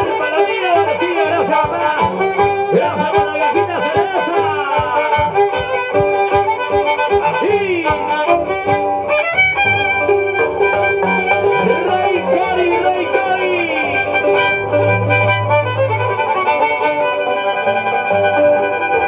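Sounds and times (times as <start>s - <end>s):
violins playing lively folk tune: 0.0s - 19.0s.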